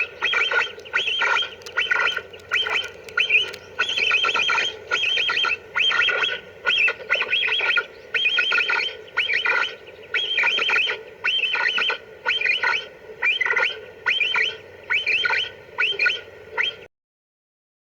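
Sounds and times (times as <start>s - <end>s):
capybara squeaky chirps: 0.0s - 16.8s.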